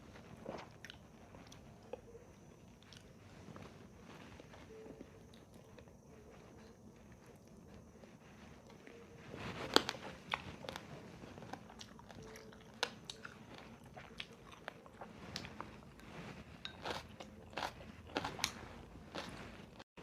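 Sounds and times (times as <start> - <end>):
chewing crunchy food: 0.1 - 19.8.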